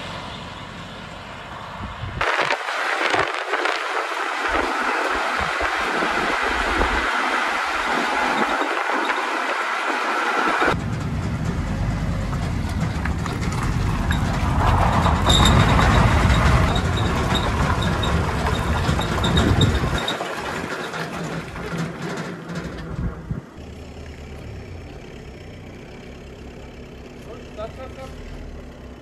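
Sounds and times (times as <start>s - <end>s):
road and wind rumble: 0.0s - 29.0s.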